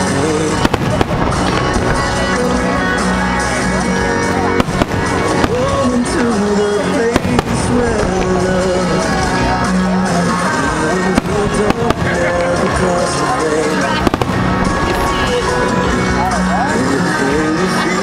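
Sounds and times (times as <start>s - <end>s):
firework bangs: 0.0s - 16.4s
music with gliding melody: 0.0s - 18.0s.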